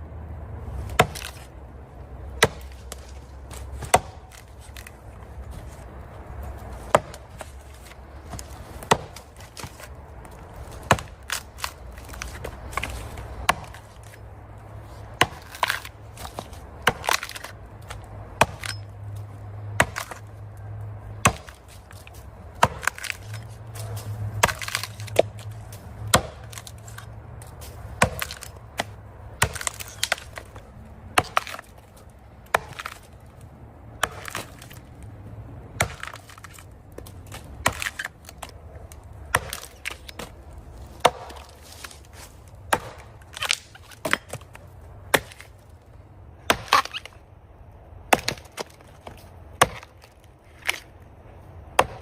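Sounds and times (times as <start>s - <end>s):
axe chopping tree trunk: 0.7s - 1.6s, 2.2s - 35.1s, 35.7s - 45.7s, 46.4s - 47.2s, 48.1s - 50.9s, 51.6s - 52.0s.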